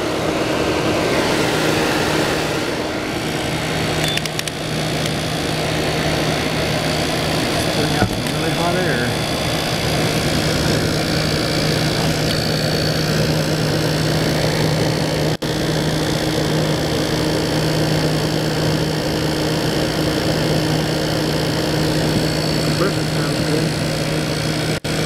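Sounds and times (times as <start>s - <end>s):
compressor hum: 0.0s - 25.0s
condenser fan rushing: 0.0s - 25.0s.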